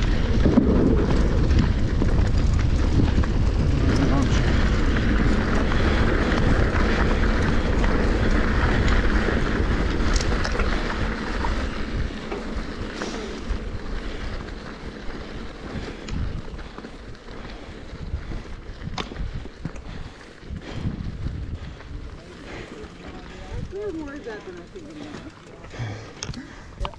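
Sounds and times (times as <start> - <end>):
wind on microphone: 0.0 - 14.4, 15.4 - 22.6
bike rattling: 0.0 - 26.9
bike tyres rolling on dirt: 0.0 - 26.9.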